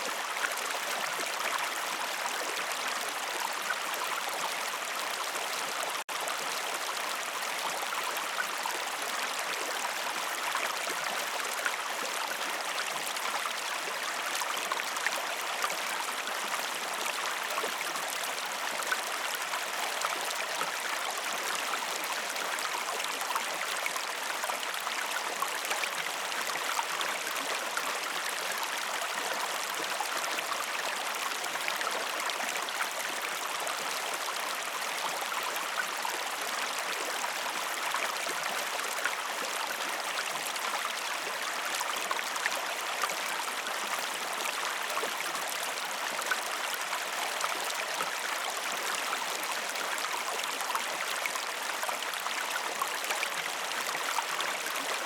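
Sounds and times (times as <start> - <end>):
flowing stream: 0.0 - 55.0.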